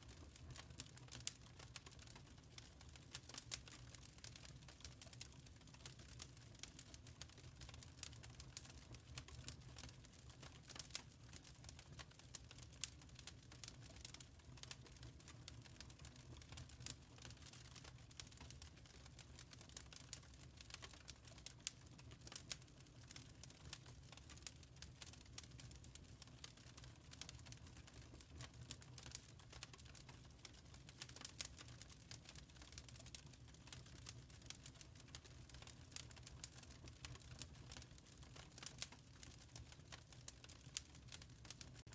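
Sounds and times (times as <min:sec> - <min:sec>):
wood fire crackling faintly: 0:00.0 - 0:41.9.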